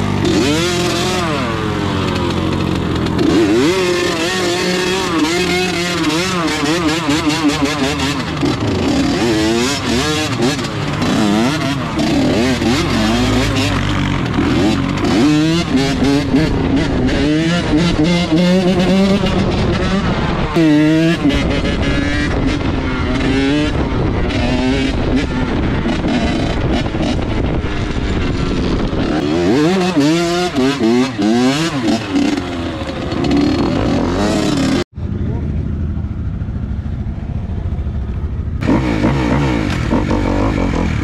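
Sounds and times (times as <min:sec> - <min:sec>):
off-road vehicle engines revving: 0:00.0 - 0:35.7, 0:36.4 - 0:41.0.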